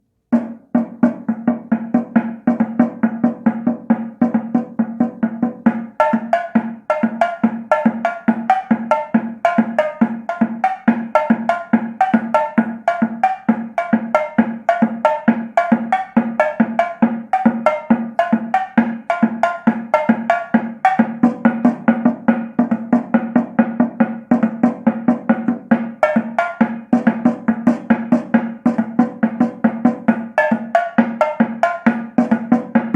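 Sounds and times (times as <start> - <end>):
fast drum beat: 0.4 - 32.9.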